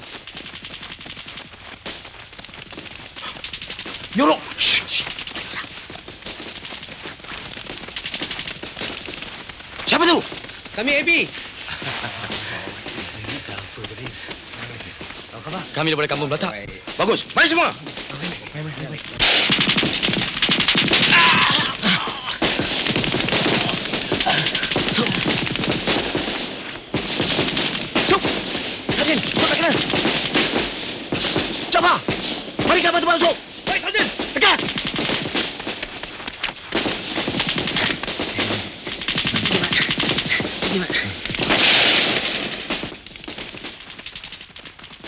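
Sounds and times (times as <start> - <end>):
rapid gunfire: 0.0 - 45.0.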